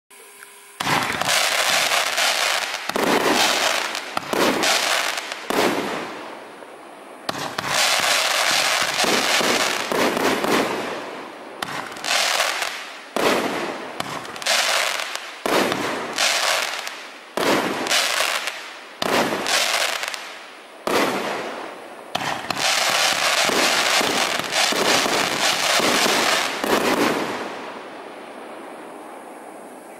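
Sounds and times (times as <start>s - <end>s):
fireworks bursting and crackling: 0.2s - 29.2s.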